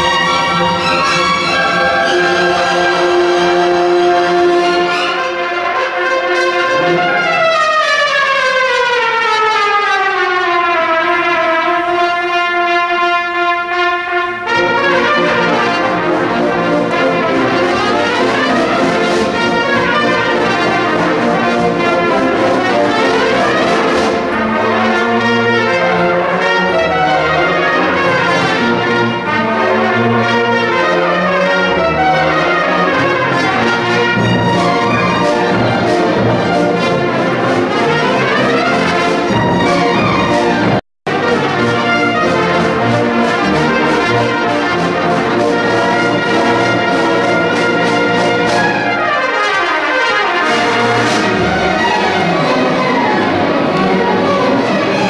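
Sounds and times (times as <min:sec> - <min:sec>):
orchestra playing fast runs: 0:00.0 - 0:55.0
solo trumpet: 0:00.0 - 0:55.0.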